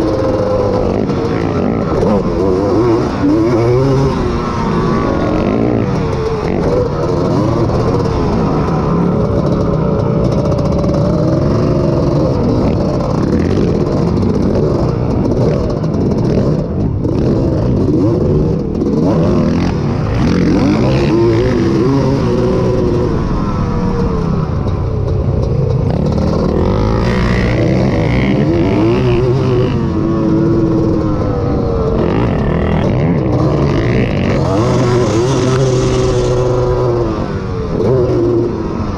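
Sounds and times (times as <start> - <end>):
two-stroke engine racing: 0.0 - 38.9.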